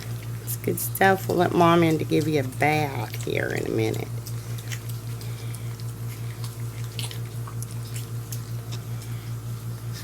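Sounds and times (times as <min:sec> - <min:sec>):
puppies eating wet smacking: 0:00.0 - 0:10.0.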